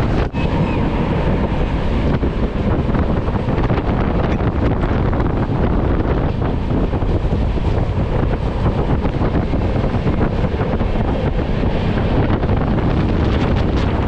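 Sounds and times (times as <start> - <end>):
train wheels rumbling on track: 0.0 - 14.0
wind buffeting microphone: 0.0 - 14.0.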